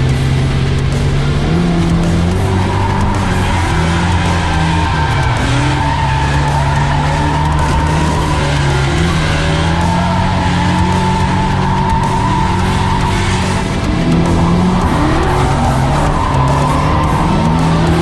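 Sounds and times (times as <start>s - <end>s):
background music with bass line: 0.0s - 18.0s
car engines running hard: 0.0s - 18.0s
tire squeal: 0.0s - 18.0s.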